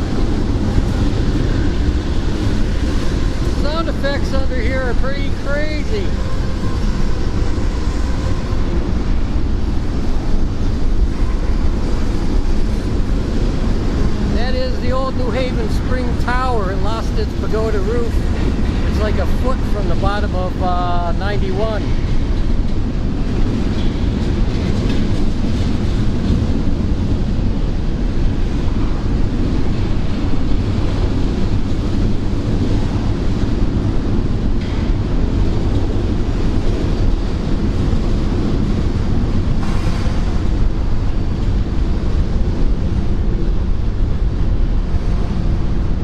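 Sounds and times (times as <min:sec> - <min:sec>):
freight train rumbling past: 0:00.0 - 0:46.0.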